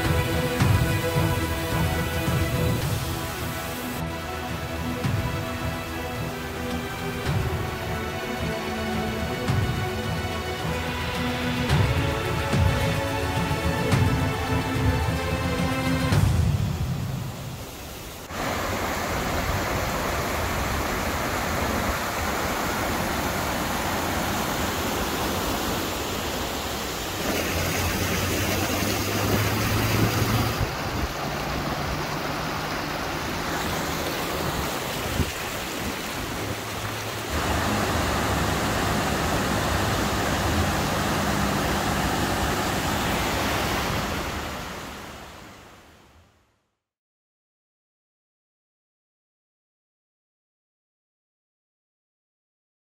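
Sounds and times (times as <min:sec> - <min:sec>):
water rushing over boulders: 0:00.0 - 0:46.1.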